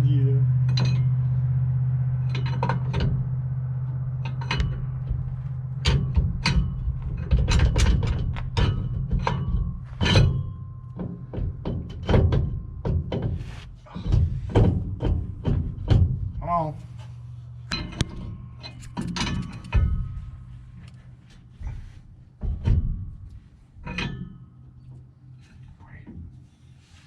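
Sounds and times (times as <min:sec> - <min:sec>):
steady low hum: 0:00.0 - 0:27.0
tools clanking on metal: 0:00.6 - 0:01.2, 0:02.2 - 0:26.2.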